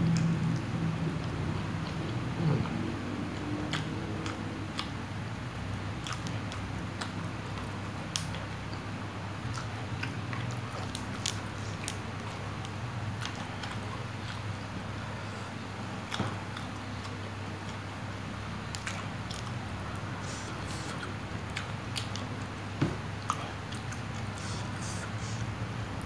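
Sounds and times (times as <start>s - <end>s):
close chewing and mouth clicks: 0.0s - 17.9s, 18.6s - 25.4s
steady low hum: 0.0s - 26.0s.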